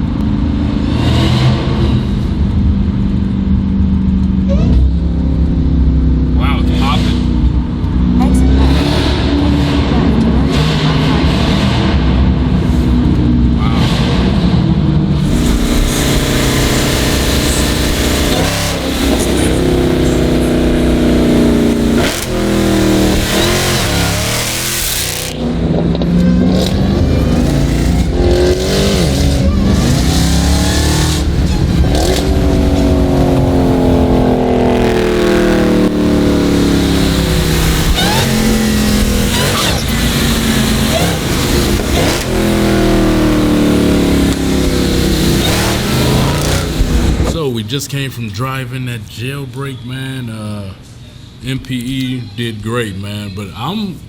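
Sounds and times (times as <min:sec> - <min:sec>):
car engine accelerating hard: 0:00.0 - 0:47.4.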